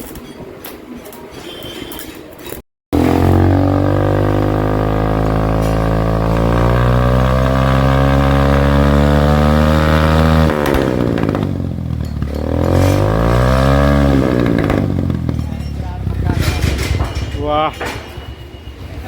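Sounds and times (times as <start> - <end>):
motorcycle engine revving: 2.9 - 19.0.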